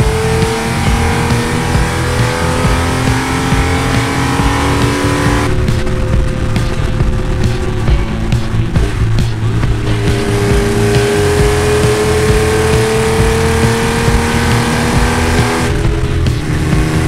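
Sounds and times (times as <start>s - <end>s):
car engine pulling under load: 0.0s - 17.0s.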